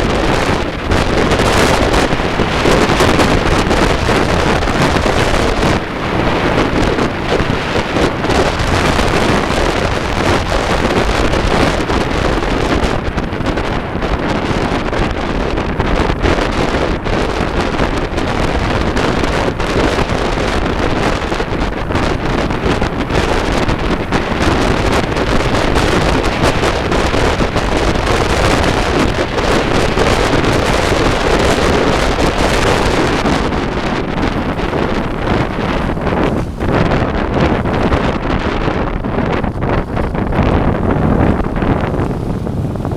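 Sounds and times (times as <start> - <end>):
vehicle noise: 0.0 - 42.9
wind buffeting microphone: 0.0 - 42.9.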